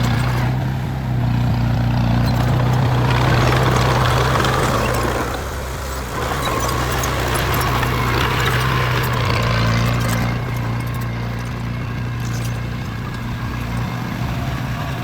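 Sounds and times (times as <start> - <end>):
diesel engine running: 0.0 - 15.0
light clicks and rattles: 1.9 - 15.0.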